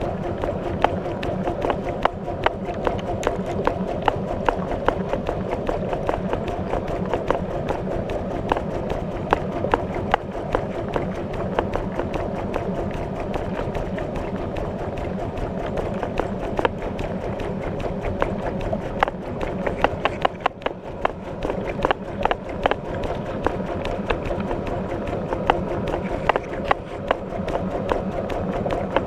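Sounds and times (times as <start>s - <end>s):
water sloshing and churning: 0.0s - 29.0s.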